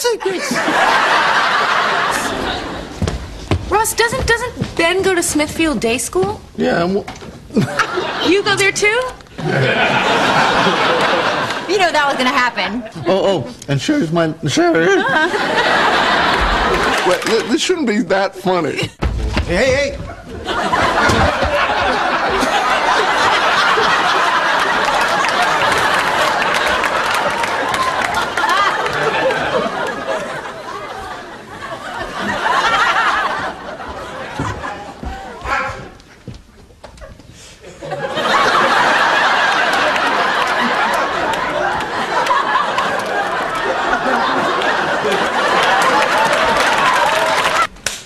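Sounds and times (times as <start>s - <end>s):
many people laughing: 0.0s - 3.1s, 7.5s - 13.5s, 14.6s - 17.9s, 20.2s - 35.9s, 37.0s - 47.7s.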